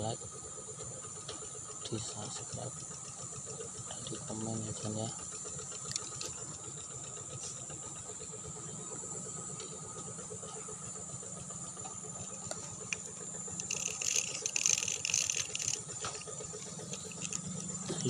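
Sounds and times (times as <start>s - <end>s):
crickets and insects chirring: 0.0s - 18.0s.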